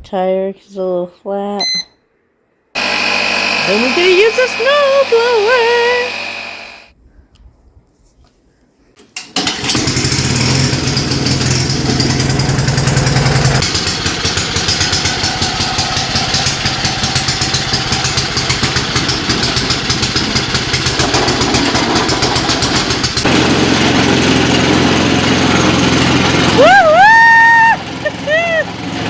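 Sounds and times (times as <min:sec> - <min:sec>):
snow blower engine running: 0:02.8 - 0:06.9, 0:09.4 - 0:29.0.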